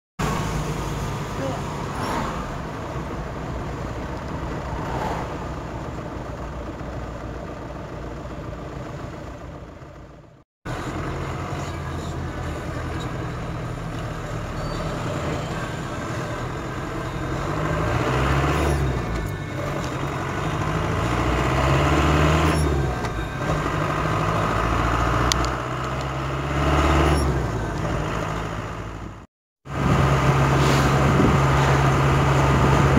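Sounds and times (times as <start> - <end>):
car engine and road noise: 0.2 - 32.9.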